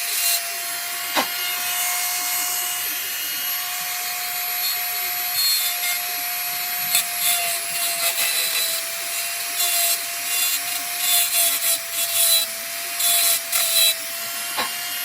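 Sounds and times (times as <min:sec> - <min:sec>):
cutter rasping against metal: 0:00.0 - 0:15.0
small motor tool whine: 0:00.0 - 0:15.0.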